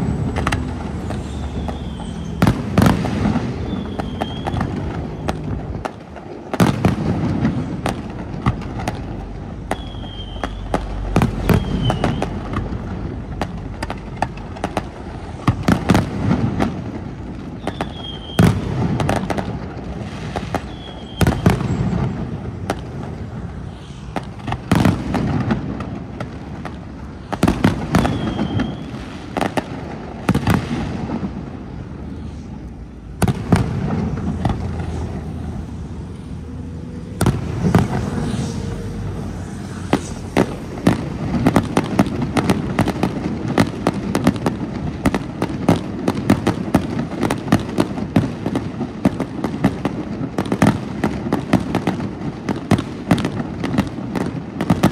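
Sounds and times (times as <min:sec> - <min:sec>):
rapid crackling firework pops: 0:00.0 - 0:23.4, 0:24.1 - 0:35.5, 0:37.2 - 0:38.2, 0:39.5 - 0:54.9
firework booms with low rumble: 0:00.0 - 0:23.5, 0:24.1 - 0:32.1, 0:33.1 - 0:35.6, 0:37.1 - 0:39.2, 0:39.8 - 0:54.9.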